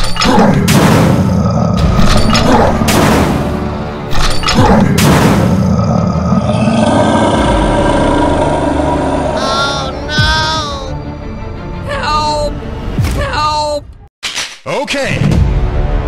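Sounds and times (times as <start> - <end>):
background music: 0.0 - 14.1, 14.7 - 16.0.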